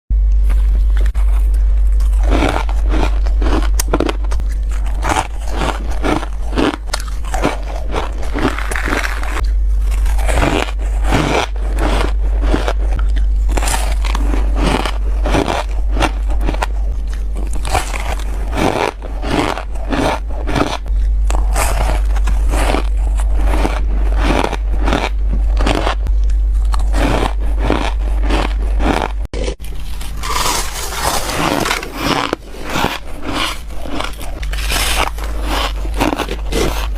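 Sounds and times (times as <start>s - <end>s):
low hum: 0.1s - 36.9s
ice crunching being chewed: 0.4s - 36.9s.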